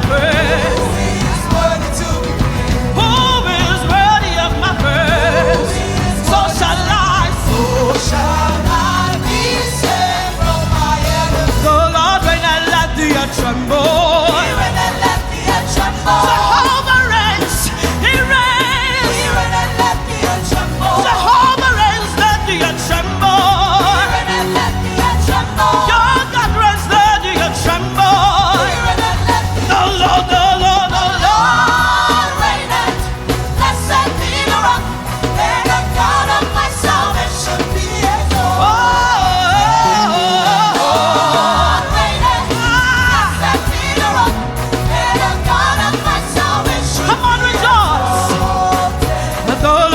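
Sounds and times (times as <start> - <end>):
backing voices singing: 0.0 - 49.9
band with bass and drums: 0.0 - 49.9
person singing with vibrato: 0.0 - 49.9.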